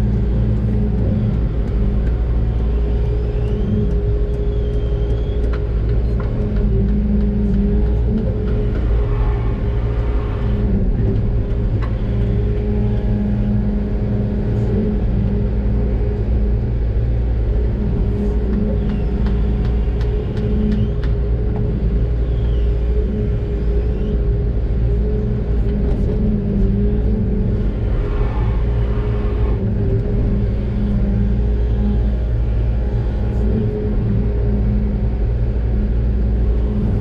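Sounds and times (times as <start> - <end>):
faint whines: 0.0 - 37.0
large diesel engine running: 0.0 - 37.0.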